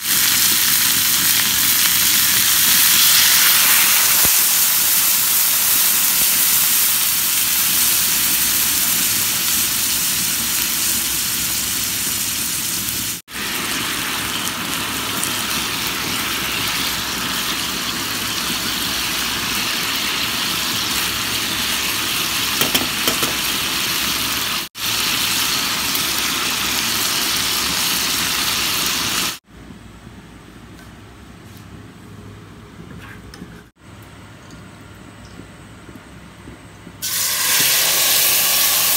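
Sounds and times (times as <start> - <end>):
meat sizzling in a pan: 0.0 - 29.4, 37.0 - 38.9.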